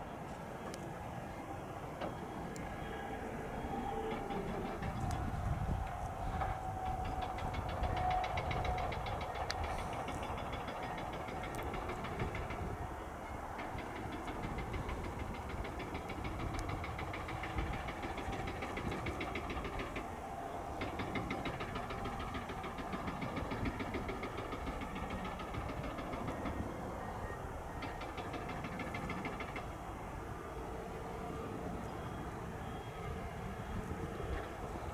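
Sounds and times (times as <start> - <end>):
tow tractor engine ticking clatter: 0.0 - 30.5, 31.2 - 34.9.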